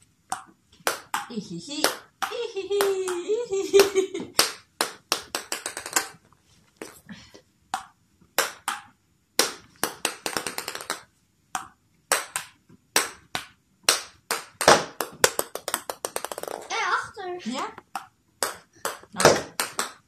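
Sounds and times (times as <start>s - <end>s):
table tennis ball bouncing: 0.3s - 3.2s, 3.8s - 6.2s, 7.7s - 16.8s, 17.6s - 20.0s.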